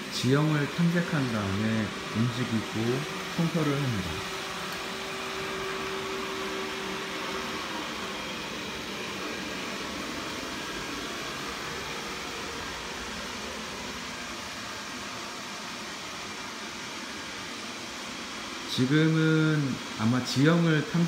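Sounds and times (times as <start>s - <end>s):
robot vacuum whirring: 0.0s - 18.5s.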